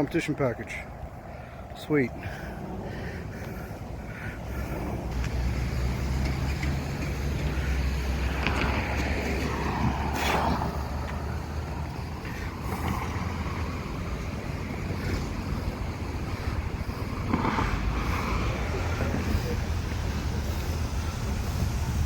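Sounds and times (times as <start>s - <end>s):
rush of noise: 0.8s - 22.0s
truck engine running: 2.6s - 22.0s.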